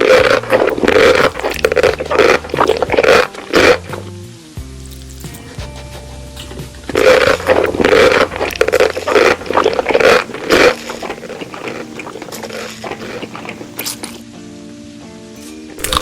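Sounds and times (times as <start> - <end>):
scraping and crackling on microphone: 0.0 - 4.0, 4.9 - 14.1
soft background music: 0.0 - 16.0.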